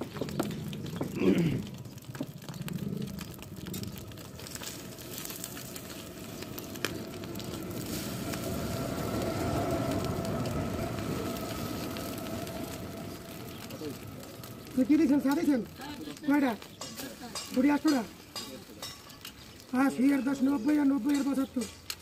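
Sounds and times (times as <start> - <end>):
food sizzling on griddle: 0.0 - 1.5, 2.2 - 22.0.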